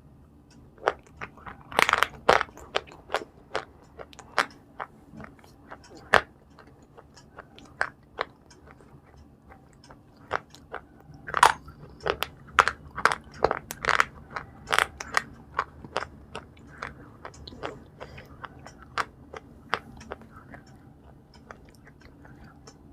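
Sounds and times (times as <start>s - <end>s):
person chewing crunchy food: 0.8s - 22.9s.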